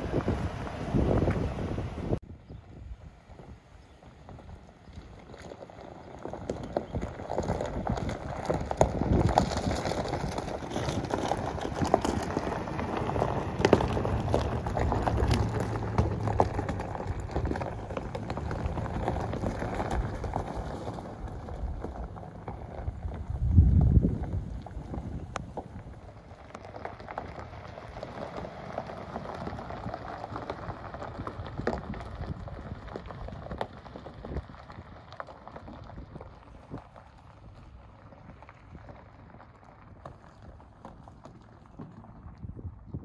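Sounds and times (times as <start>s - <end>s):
tyres crunching on gravel: 0.0s - 2.2s, 3.0s - 43.0s
low engine hum: 0.0s - 43.0s
wind rumble on microphone: 0.0s - 43.0s.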